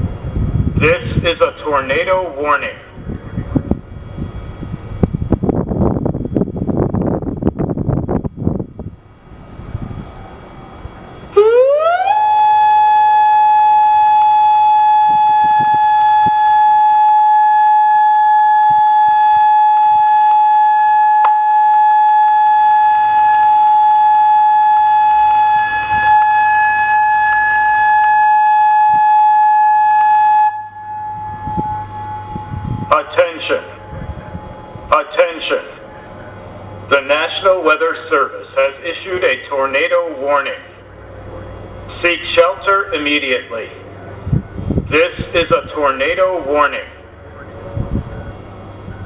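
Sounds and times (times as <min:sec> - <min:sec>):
warning siren: 0:00.0 - 0:49.0.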